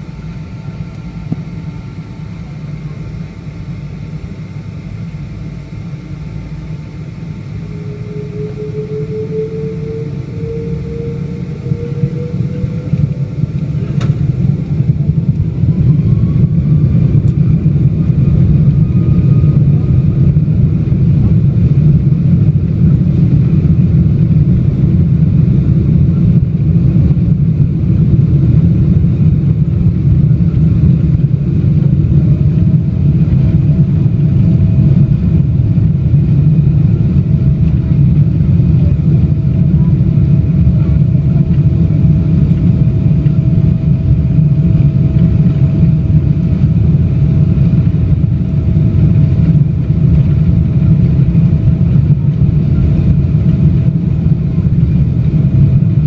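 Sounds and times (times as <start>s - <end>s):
jet engines spooling up: 0.0s - 55.6s.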